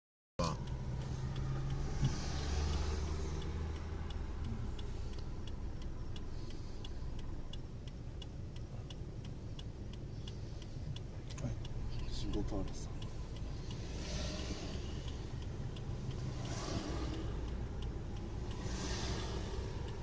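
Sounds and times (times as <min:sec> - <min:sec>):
idling car rumble: 0:00.4 - 0:20.0
road traffic: 0:00.4 - 0:20.0
turn signal clicking: 0:00.5 - 0:20.0.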